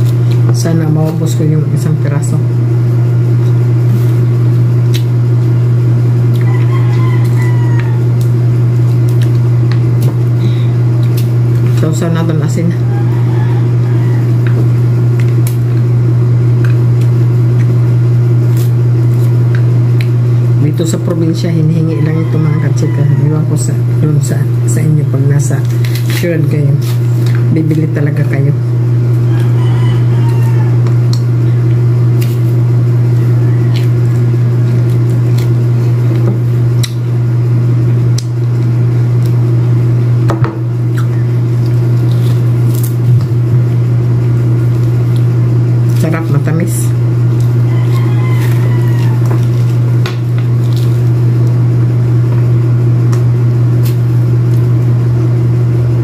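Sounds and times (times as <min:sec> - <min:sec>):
fruit membrane peeling crackles: 0:00.0 - 0:01.5, 0:03.1 - 0:23.5, 0:25.2 - 0:40.2, 0:40.8 - 0:56.0
loud low hum: 0:00.0 - 0:56.0.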